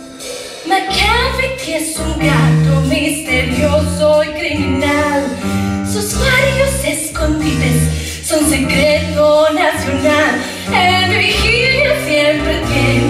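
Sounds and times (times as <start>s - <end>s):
band accompaniment: 0.0s - 13.0s
woman singing: 0.6s - 13.0s.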